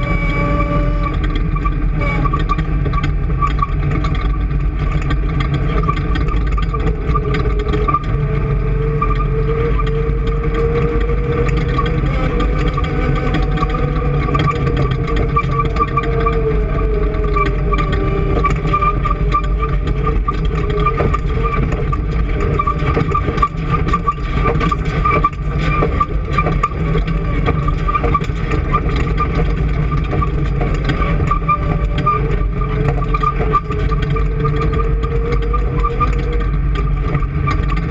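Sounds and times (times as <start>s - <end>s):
engine running loudly: 0.0s - 37.9s.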